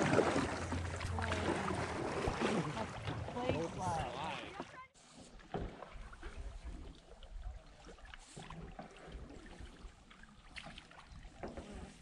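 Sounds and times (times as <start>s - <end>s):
paddle splashes and drips: 0.0s - 12.0s.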